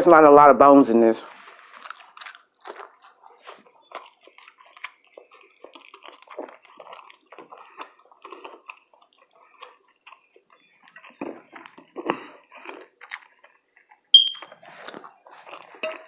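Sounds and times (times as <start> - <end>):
person chewing with wet smacks: 1.3 - 16.0.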